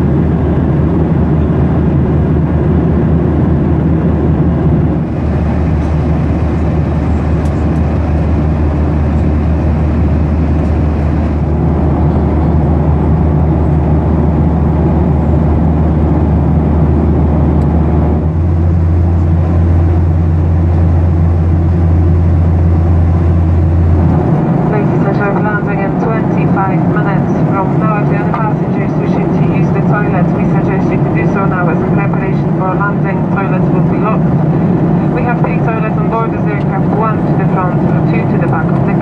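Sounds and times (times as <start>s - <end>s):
airplane cabin drone: 0.0s - 39.0s.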